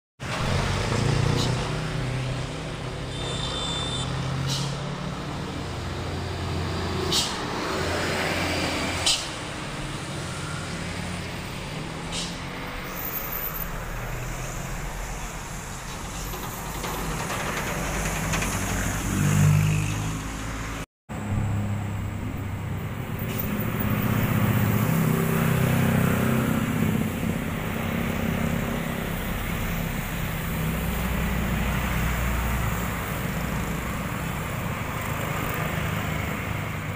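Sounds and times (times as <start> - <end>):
cars and motorcycles passing: 0.2 - 16.0, 17.2 - 36.9
diesel truck engines under load: 0.2 - 36.9.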